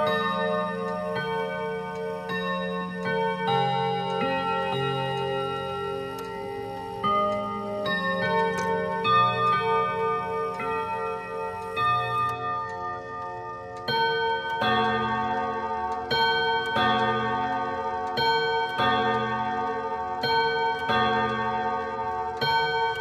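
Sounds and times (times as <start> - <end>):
clock chime rods melody: 0.0 - 23.0.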